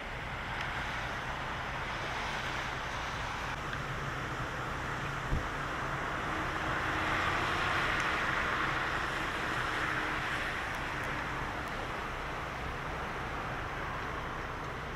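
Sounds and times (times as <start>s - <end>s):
vehicle passing on road: 0.0s - 14.9s.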